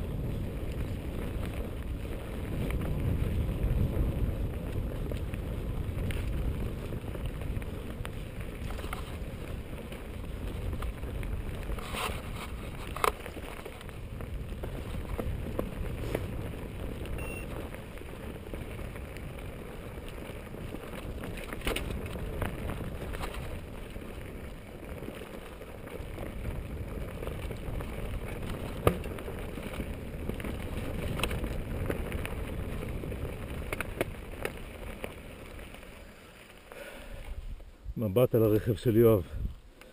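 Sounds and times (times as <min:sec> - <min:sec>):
wind buffeting microphone: 0:00.0 - 0:36.0, 0:36.8 - 0:39.7
bike rattling over rocks: 0:00.0 - 0:39.2
bike tyres rumbling on dirt: 0:00.0 - 0:39.9.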